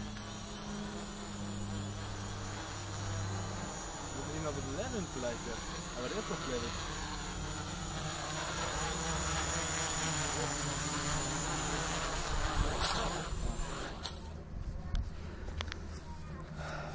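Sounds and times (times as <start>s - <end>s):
drone propellers buzzing: 0.0s - 14.4s.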